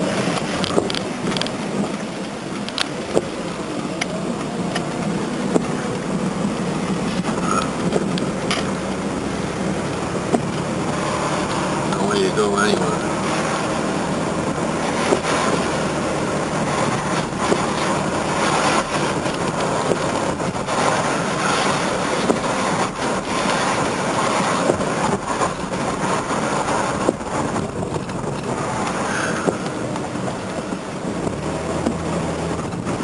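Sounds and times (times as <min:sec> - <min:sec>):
road and tyre noise: 0:00.0 - 0:33.0.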